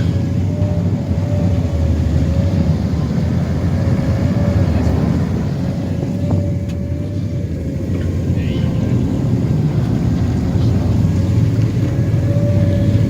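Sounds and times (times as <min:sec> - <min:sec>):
outboard motors running: 0:00.0 - 0:13.0.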